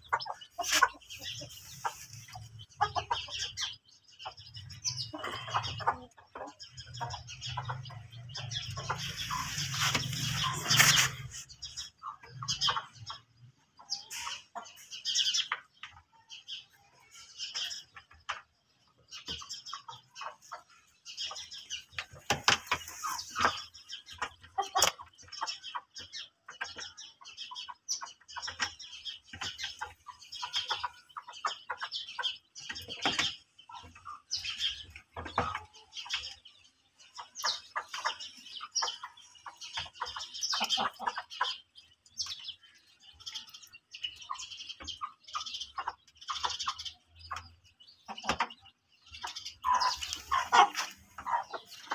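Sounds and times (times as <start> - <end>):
birds chirping: 0.0 - 51.9
chickens clucking: 0.0 - 51.9.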